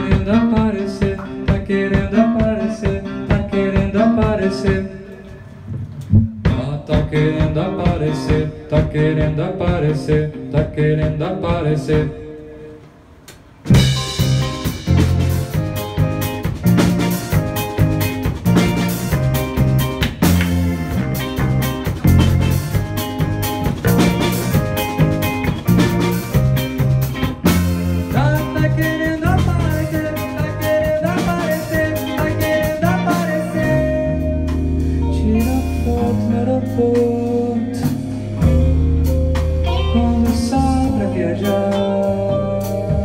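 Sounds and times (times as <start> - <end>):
drum kit: 0.0 - 12.2, 12.8 - 43.0
electric guitar: 0.0 - 12.2, 13.6 - 43.0
bass guitar: 0.0 - 12.4, 13.5 - 43.0.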